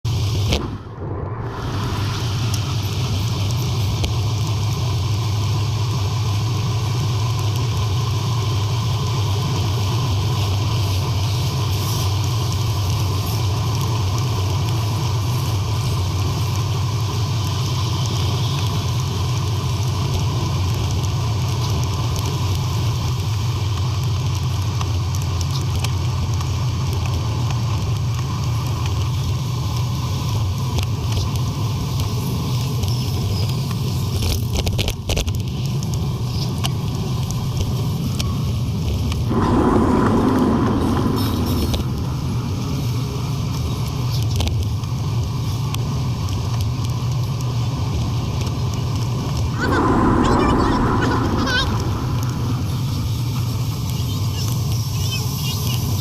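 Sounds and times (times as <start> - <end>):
road noise: 0.0 - 56.0
wind rumble on microphone: 0.1 - 56.0.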